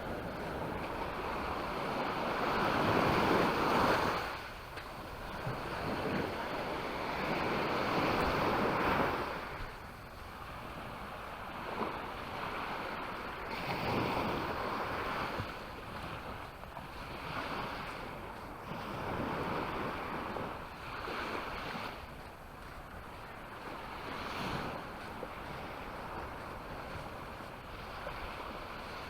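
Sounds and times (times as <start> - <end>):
small waves breaking on beach: 0.0 - 29.0
wind rumbling on microphone: 0.0 - 29.0.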